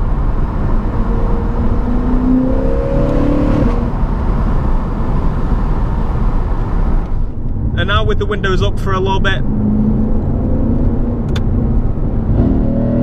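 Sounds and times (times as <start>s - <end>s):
car engine rumble: 0.0s - 13.0s
wind and road noise: 0.0s - 13.0s.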